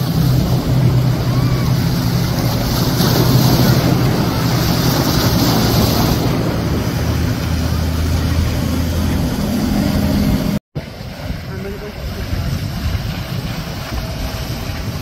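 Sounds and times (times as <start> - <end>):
outboard motor drone: 0.0 - 15.0
rush of wake and waves: 0.0 - 15.0
wind buffeting microphone: 0.0 - 15.0.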